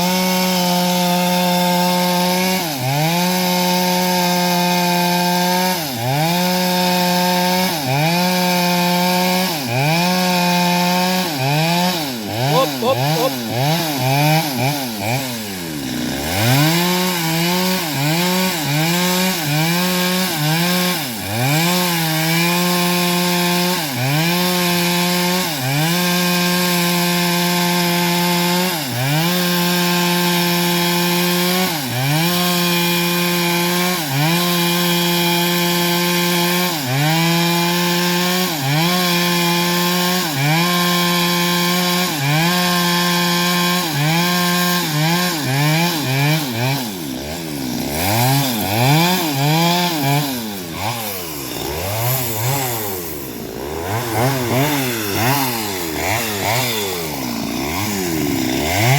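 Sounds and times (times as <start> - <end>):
small petrol engine saw cutting wood: 0.0 - 58.9.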